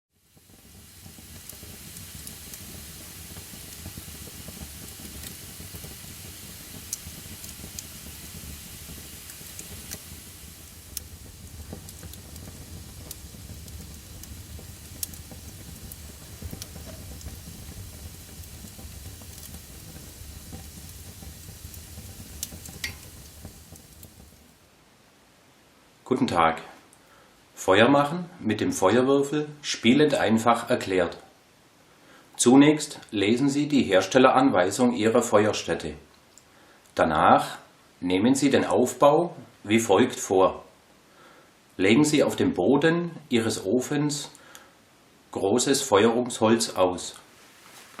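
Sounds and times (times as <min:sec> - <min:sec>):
fire hissing and crackling: 0:00.1 - 0:24.7, 0:31.8 - 0:48.0.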